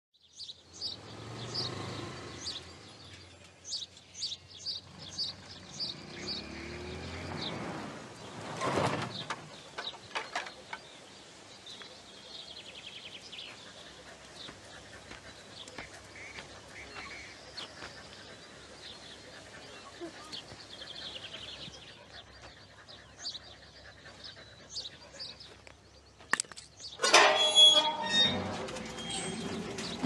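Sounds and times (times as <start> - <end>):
birds chirping: 0.2 - 30.0.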